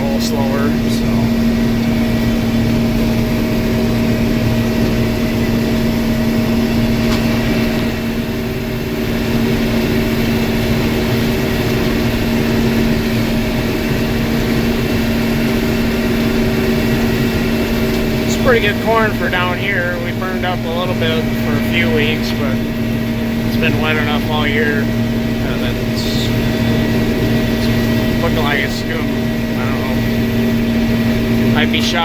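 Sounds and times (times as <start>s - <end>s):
combine harvester drone: 0.0s - 32.0s.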